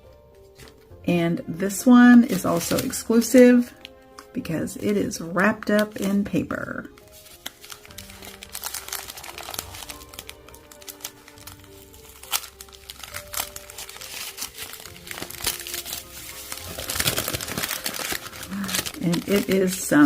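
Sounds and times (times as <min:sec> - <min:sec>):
soft background music: 0:00.0 - 0:20.0
wrapping paper crinkling: 0:00.5 - 0:00.9, 0:02.2 - 0:20.0.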